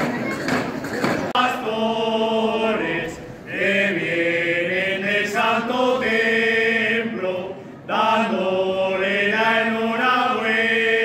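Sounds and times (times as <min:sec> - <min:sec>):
men singing: 0:01.3 - 0:11.0.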